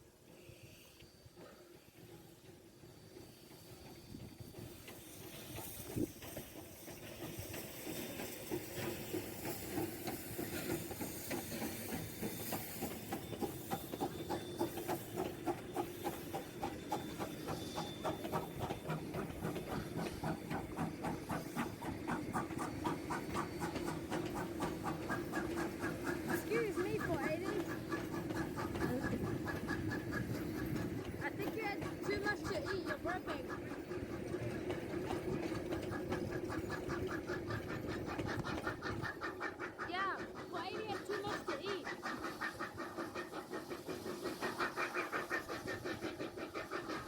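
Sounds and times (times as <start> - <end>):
regular rhythmic beat of train: 0.0 - 47.0
train approaching: 0.0 - 47.0
train hiss: 0.0 - 47.0.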